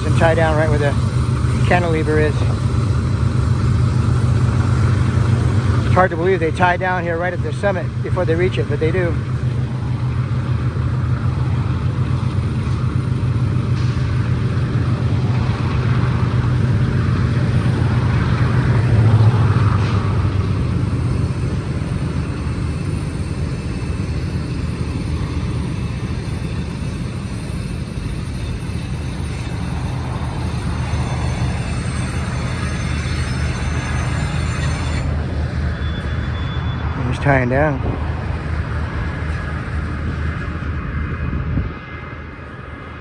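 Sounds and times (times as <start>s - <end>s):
diesel locomotives rumbling: 0.0s - 43.0s.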